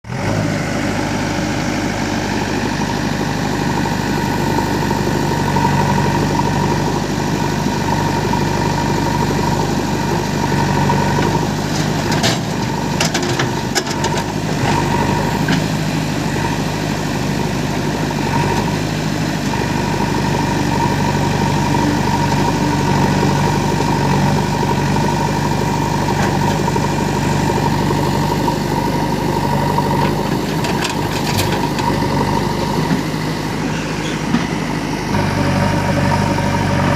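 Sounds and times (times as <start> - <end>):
diesel engines running: 0.0 - 36.9.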